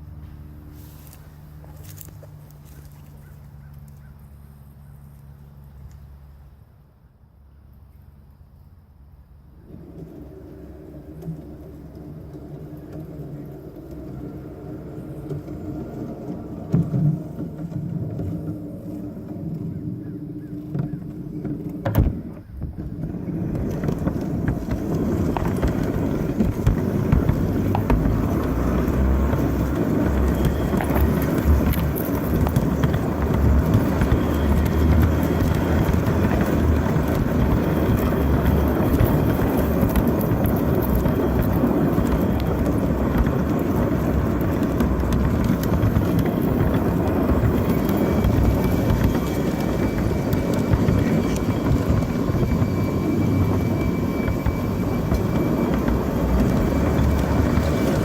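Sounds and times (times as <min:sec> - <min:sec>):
light clicks of wheels: 0:00.0 - 0:06.6, 0:09.7 - 0:58.0
model train motor and wheel rumble: 0:00.0 - 0:58.0.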